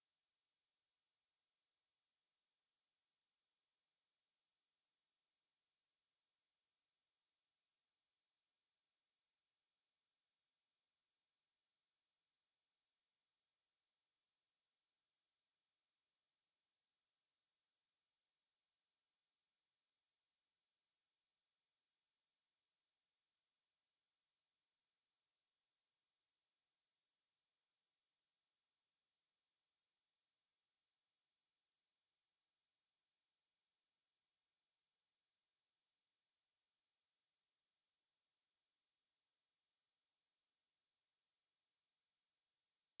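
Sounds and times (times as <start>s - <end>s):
sine-wave test tone: 0.0s - 43.0s.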